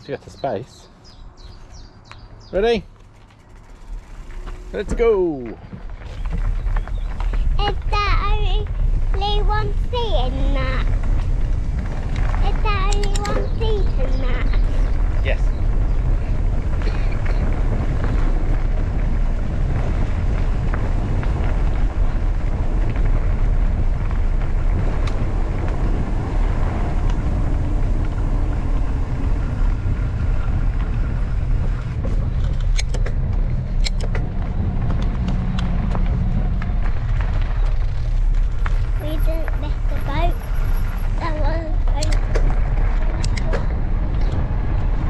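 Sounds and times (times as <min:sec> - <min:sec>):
bike tyres rolling on path: 0:00.0 - 0:45.0
wind buffeting microphone: 0:00.3 - 0:45.0.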